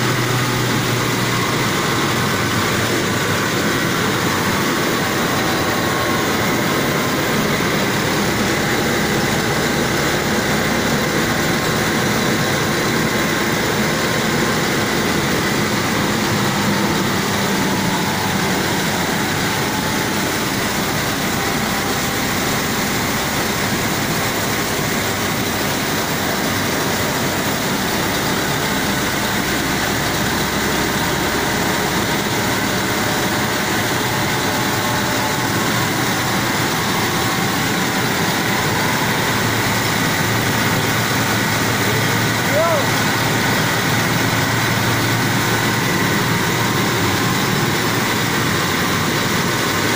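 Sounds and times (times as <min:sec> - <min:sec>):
rice mill machinery running: 0:00.0 - 0:49.9.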